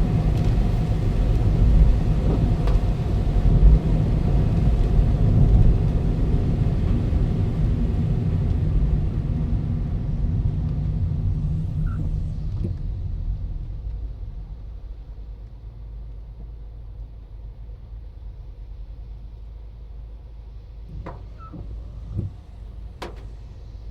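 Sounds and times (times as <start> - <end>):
car engine and road rumble: 0.0 - 23.9.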